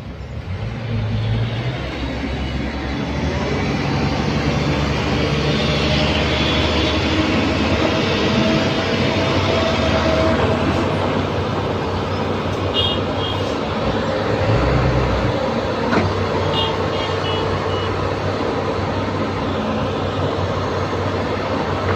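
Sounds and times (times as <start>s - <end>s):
heavy diesel machinery running: 0.0s - 21.9s.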